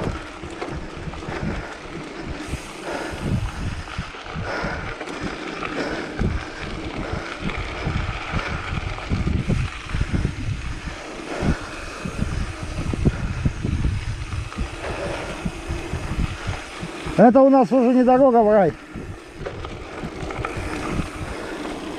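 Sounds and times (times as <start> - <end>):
tyres rolling on dirt: 0.0 - 21.9
wind buffeting microphone: 0.0 - 21.9.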